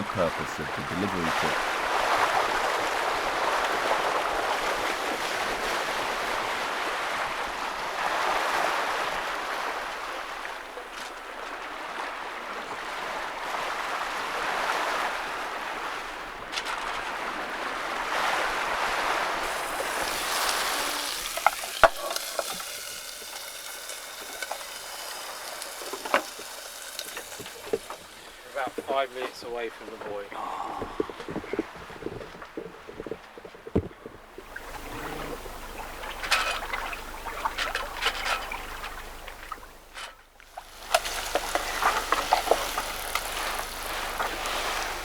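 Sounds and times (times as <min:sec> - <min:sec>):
water rushing along a hull: 0:00.0 - 0:45.0.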